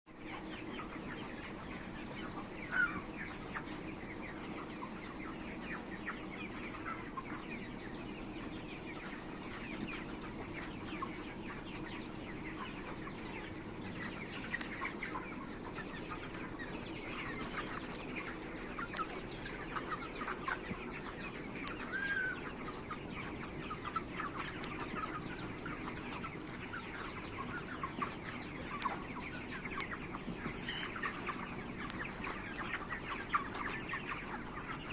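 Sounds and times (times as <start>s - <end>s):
chickens clucking and peeping: 0.1s - 34.9s.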